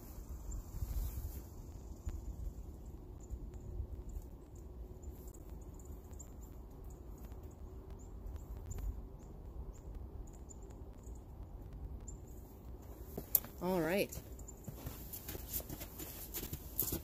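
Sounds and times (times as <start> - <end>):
low outdoor rumble: 0.0 - 17.0
songbirds chirping: 0.0 - 17.0.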